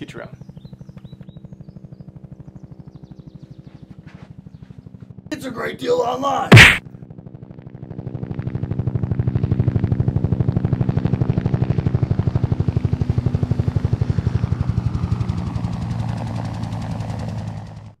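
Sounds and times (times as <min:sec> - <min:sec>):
helicopter rotor chopping: 0:00.0 - 0:17.9
helicopter engine hum: 0:00.0 - 0:18.0.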